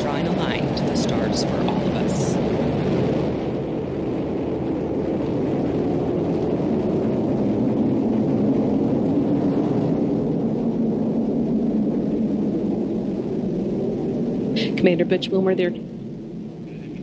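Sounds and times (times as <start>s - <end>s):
rocket engine rumble: 0.0s - 17.0s.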